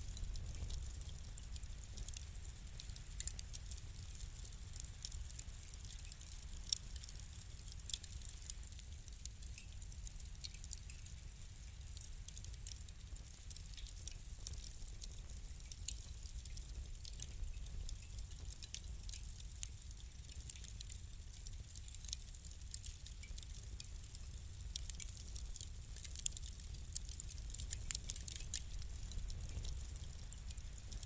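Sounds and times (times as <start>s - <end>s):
low rumble of fire: 0.0s - 31.0s
wood fire crackling and popping: 0.0s - 31.0s.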